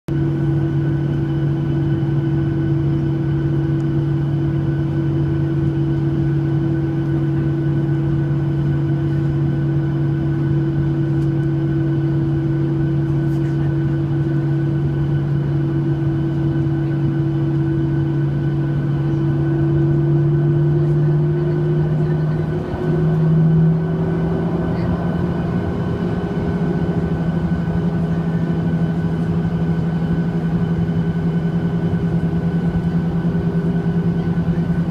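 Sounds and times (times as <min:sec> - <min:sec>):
airplane cabin droning hum: 0:00.1 - 0:34.9.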